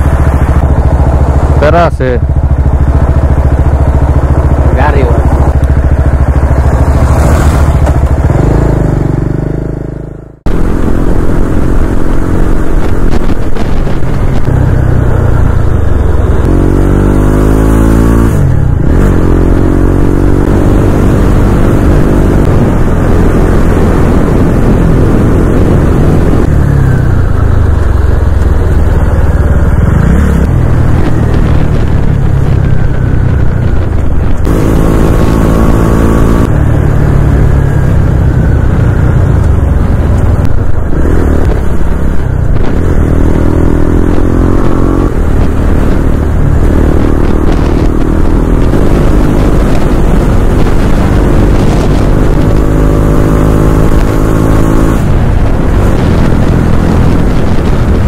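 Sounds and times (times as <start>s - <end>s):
road noise rumble: 0.0s - 58.0s
vehicle engine running: 0.0s - 58.0s.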